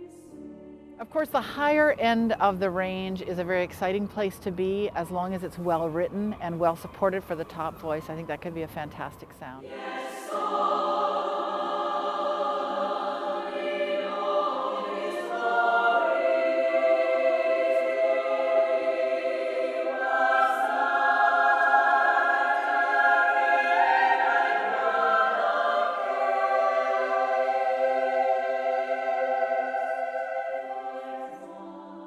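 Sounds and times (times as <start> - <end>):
women's choir singing unaccompanied: 0.0 - 1.2, 3.1 - 32.0.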